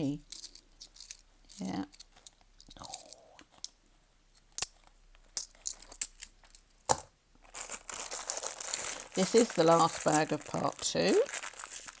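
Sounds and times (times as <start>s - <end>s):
coins clinking: 0.3s - 3.8s, 5.4s - 12.0s.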